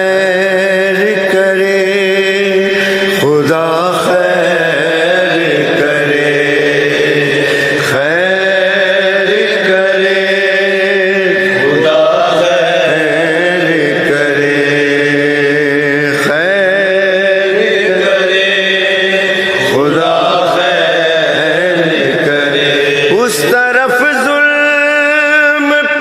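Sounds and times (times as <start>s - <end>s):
men chanting in unison: 0.0s - 26.0s.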